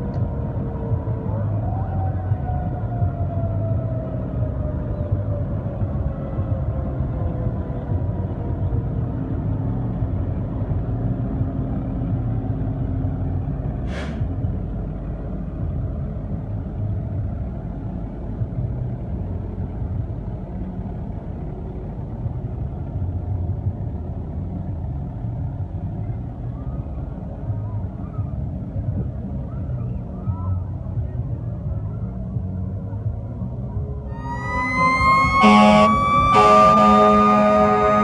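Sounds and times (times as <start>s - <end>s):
diesel engine idling: 0.2s - 38.0s.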